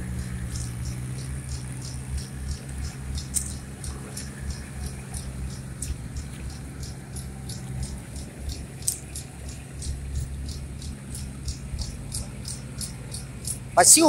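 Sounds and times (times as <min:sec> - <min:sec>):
engine humming: 0:00.0 - 0:14.0
faint high ticks: 0:00.0 - 0:14.0.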